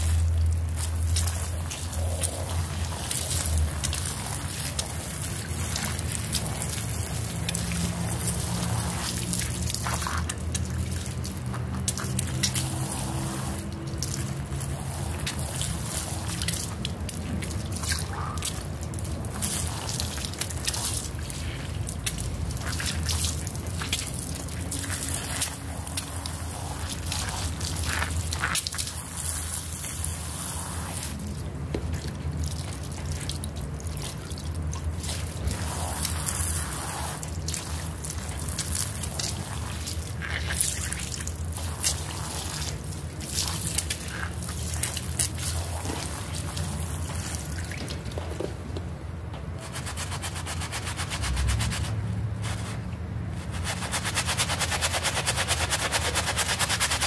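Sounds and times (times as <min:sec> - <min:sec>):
scrub brush scrubbing carpet: 0:00.0 - 0:33.2, 0:35.0 - 0:48.6, 0:49.6 - 0:57.0
water poured onto carpet: 0:00.0 - 0:48.9, 0:49.6 - 0:57.0
wet squelching of fingers: 0:00.0 - 0:57.0.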